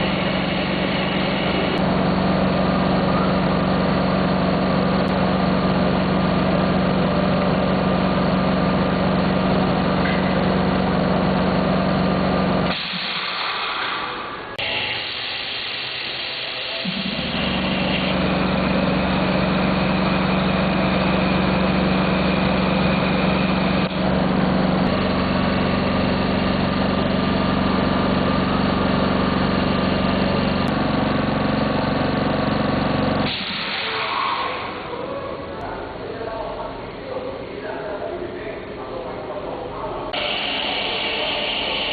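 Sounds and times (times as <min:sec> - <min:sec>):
air compressor humming: 0:00.0 - 0:41.9.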